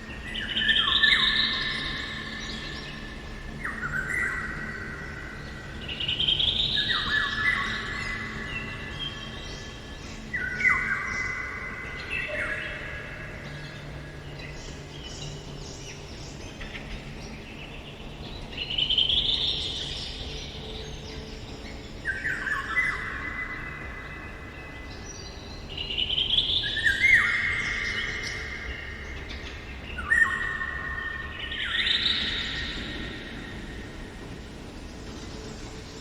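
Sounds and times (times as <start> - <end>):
songbirds calling: 0.0 - 36.0.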